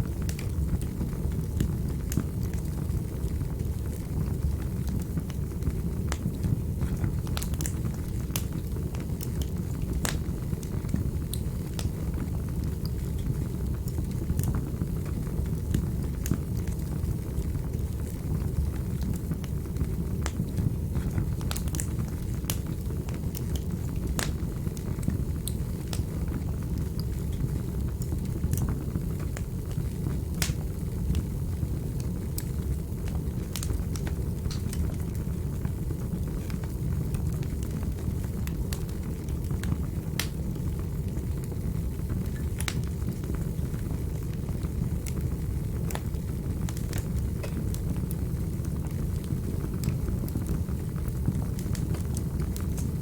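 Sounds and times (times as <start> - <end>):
fire crackling in fireplace: 0.0 - 53.0.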